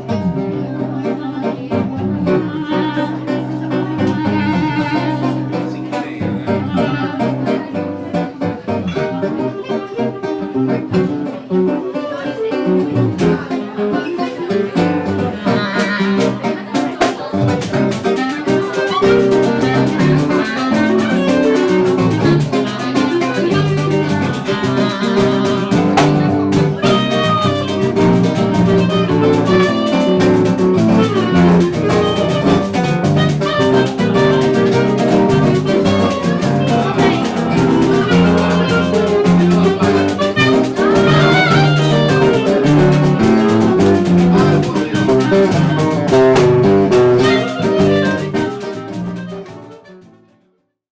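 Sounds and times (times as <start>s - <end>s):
instrumental ensemble music: 0.0s - 50.4s.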